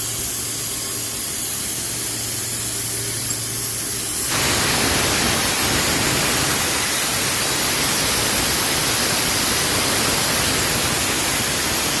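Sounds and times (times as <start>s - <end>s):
arc gouging hiss: 0.0s - 12.0s.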